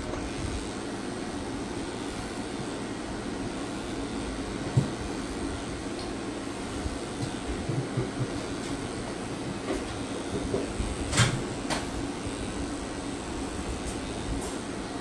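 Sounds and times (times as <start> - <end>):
small motor humming: 0.0 - 15.0.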